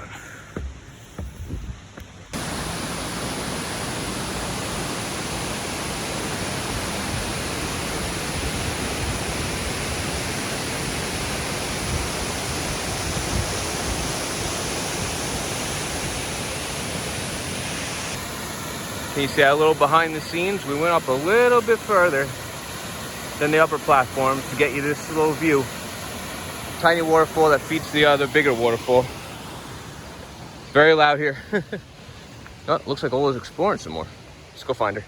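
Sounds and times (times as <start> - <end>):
waterfall rushing up close: 2.3 - 34.8.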